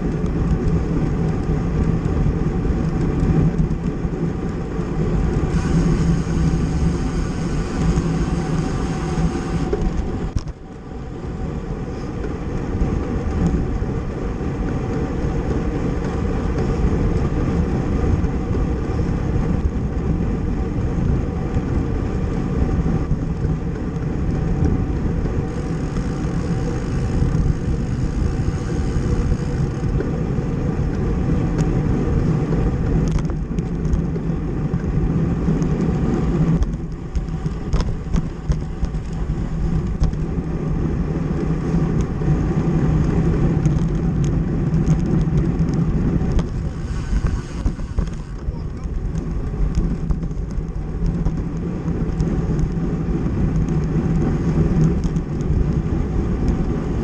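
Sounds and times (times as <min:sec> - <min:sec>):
bicycle tyre and road noise: 0:00.0 - 0:57.0
wind buffeting microphone: 0:00.0 - 0:57.0.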